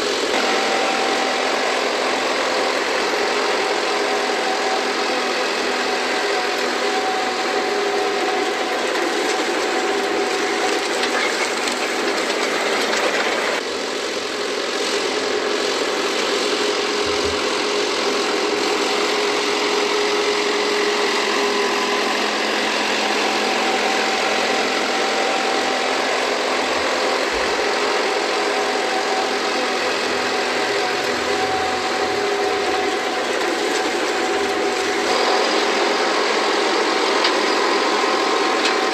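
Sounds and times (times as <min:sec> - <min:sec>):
harvester engine droning: 0:00.0 - 0:38.9.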